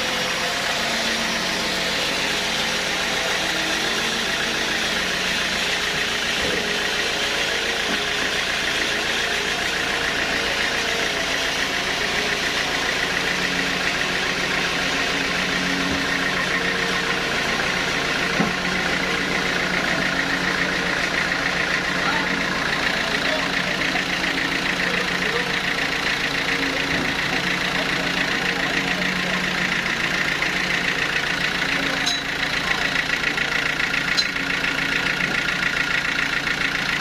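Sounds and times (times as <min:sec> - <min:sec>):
sawmill machinery motor hum: 0:00.0 - 0:37.0.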